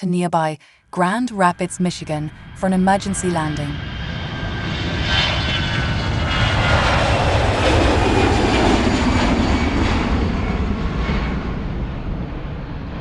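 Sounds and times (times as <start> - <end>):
airplane engine rushing: 0.7 - 13.0.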